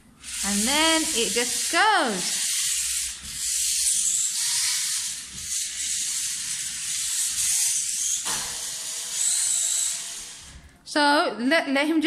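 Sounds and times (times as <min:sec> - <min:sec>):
small electric motors hissing: 0:00.2 - 0:10.7.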